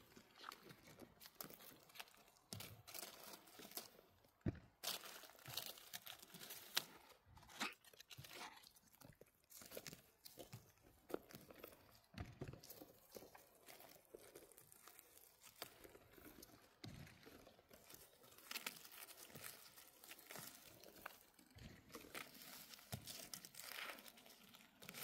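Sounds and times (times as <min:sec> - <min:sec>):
forest litter rustling and crackling: 0:00.0 - 0:04.2, 0:04.8 - 0:12.0, 0:12.6 - 0:16.7, 0:17.4 - 0:25.0.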